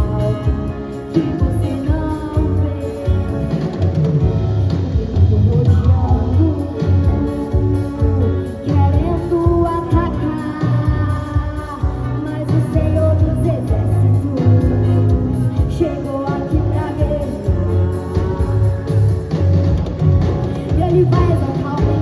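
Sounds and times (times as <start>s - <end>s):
church band playing: 0.0s - 22.0s
woman singing: 0.0s - 22.0s.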